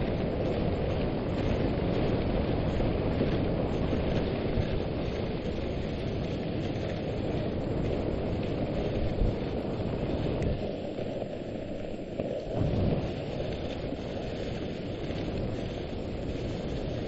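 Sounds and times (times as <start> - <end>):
sled running over snow: 0.0 - 17.0
wind buffeting microphone: 0.0 - 17.0.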